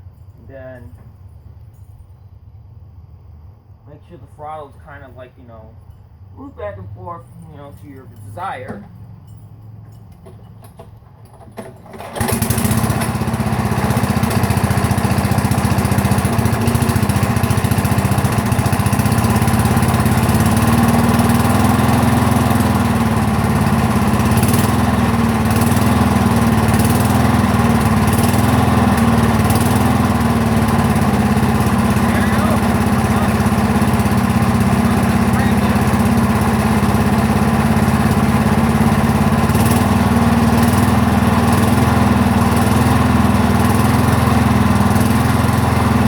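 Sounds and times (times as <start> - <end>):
lawn mower engine running: 0.0 - 46.0.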